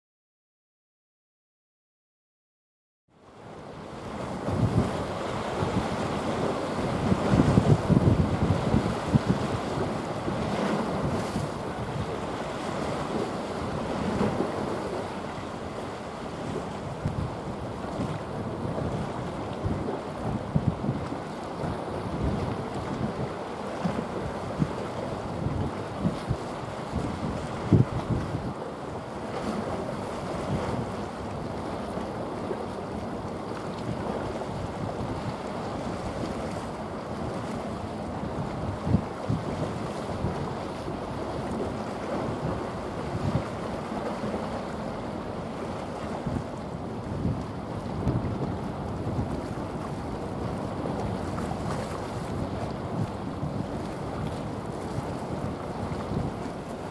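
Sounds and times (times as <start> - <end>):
sea water rushing: 3.2 - 56.9
wind buffeting microphone: 4.0 - 56.9.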